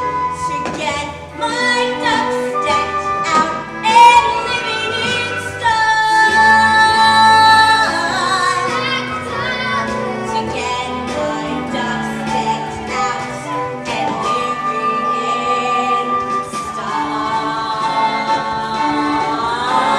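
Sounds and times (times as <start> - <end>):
instrumental accompaniment: 0.0 - 19.9
young female voices singing: 0.0 - 19.9.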